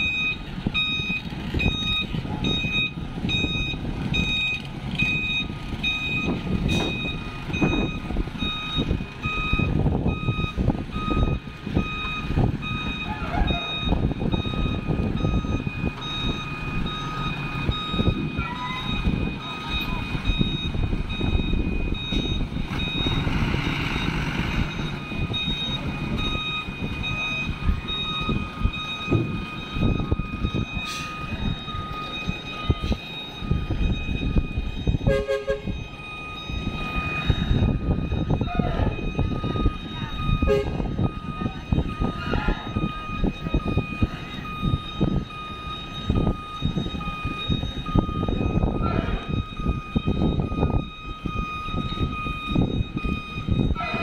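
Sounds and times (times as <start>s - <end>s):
diesel engine rumble: 0.0s - 54.0s
truck reversing alarm beeping: 0.0s - 54.0s.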